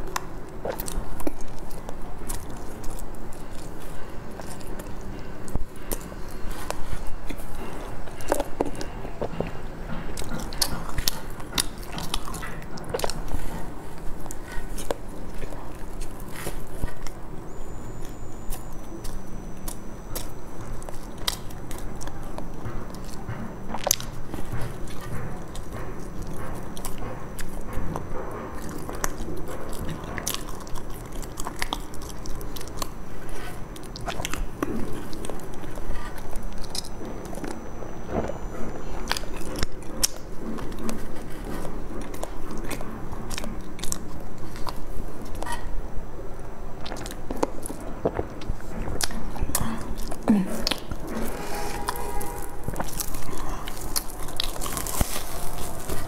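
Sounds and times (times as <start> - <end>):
chewing and biting soft bun: 0.0 - 56.0.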